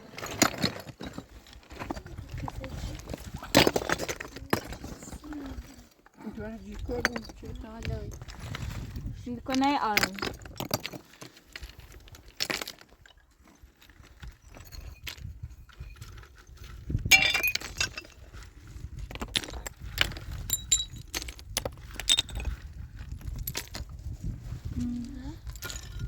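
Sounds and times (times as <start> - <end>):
objects clattering: 0.0 - 24.0, 25.4 - 26.0
hard objects clinking and knocking: 0.1 - 5.8, 6.7 - 8.6, 9.4 - 23.9, 25.4 - 26.0.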